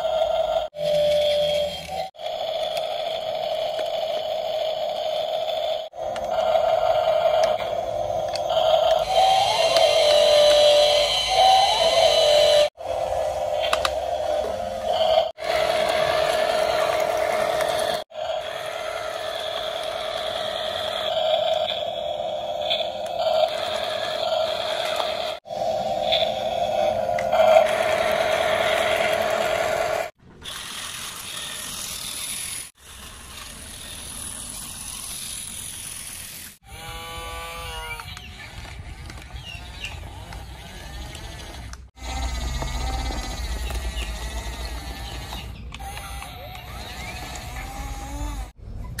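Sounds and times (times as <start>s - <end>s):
toy truck motors whirring: 0.0s - 49.0s.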